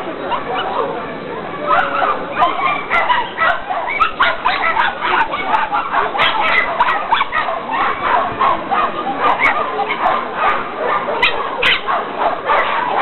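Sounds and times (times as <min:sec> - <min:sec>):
dogs barking and yelping: 0:00.2 - 0:01.0, 0:01.7 - 0:13.0.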